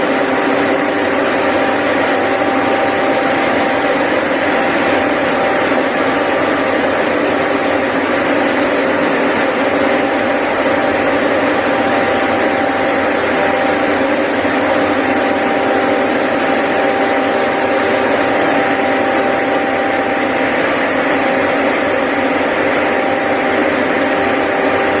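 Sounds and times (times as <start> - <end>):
paint sprayer engine running: 0.0 - 25.0
steady mechanical whine: 0.0 - 25.0.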